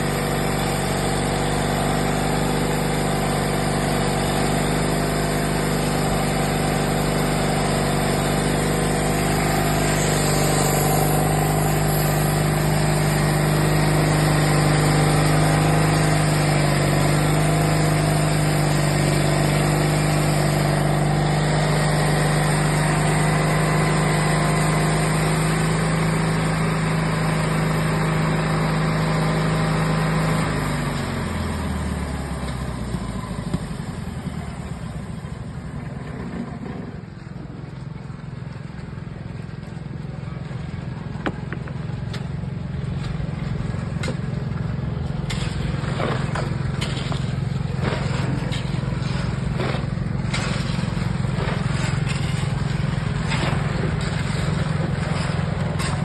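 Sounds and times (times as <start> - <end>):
band saw droning: 0.0 - 37.3, 41.1 - 56.0.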